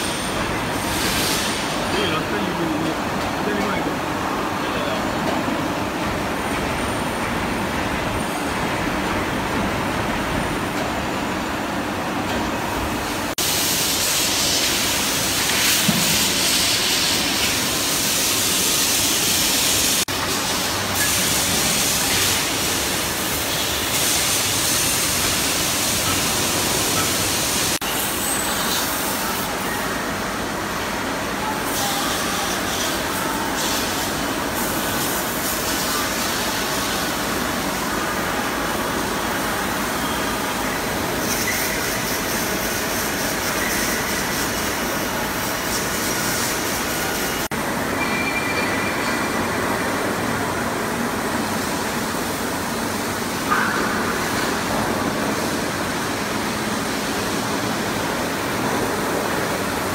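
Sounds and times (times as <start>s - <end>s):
factory machinery hum: 0.0s - 59.9s.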